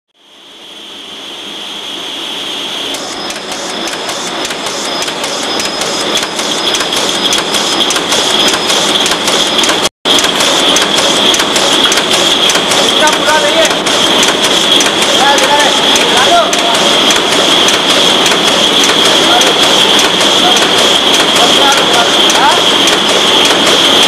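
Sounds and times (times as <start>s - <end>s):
machine high whine: 0.2s - 24.0s
machinery clattering: 3.0s - 24.0s.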